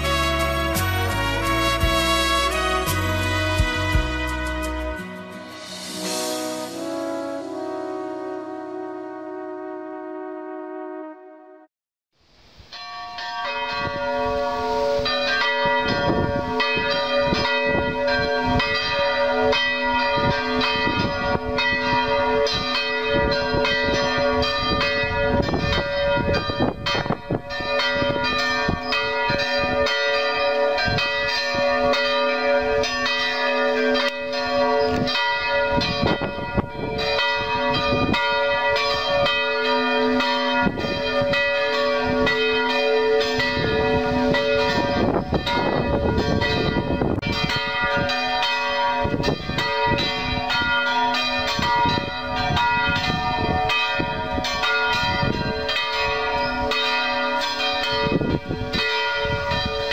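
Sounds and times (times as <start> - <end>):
church bells pealing: 0.0 - 10.1, 12.7 - 59.9.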